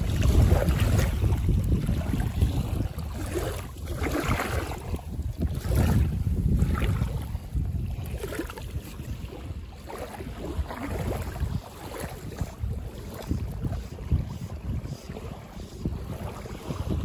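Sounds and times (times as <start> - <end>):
small waves lapping: 0.0 - 17.0
wind buffeting microphone: 0.0 - 17.0.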